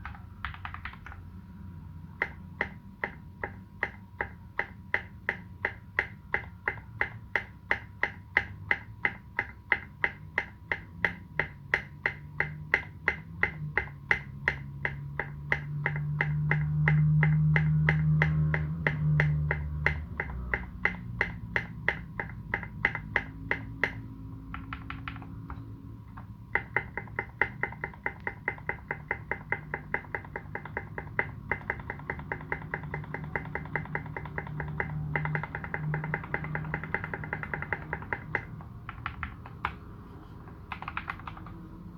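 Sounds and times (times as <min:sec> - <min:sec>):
mechanical keyboard typing: 0:00.0 - 0:01.4, 0:02.2 - 0:41.9.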